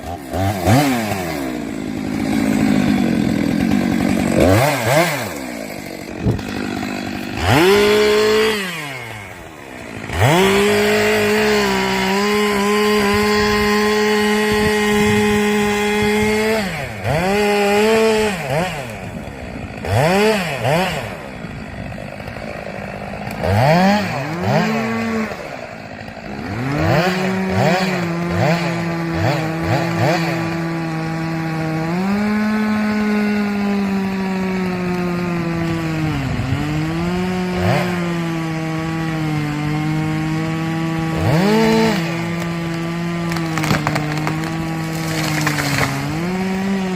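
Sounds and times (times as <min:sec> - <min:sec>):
chainsaw cutting wood: 0:00.0 - 0:46.9
chainsaw revving: 0:00.0 - 0:46.9.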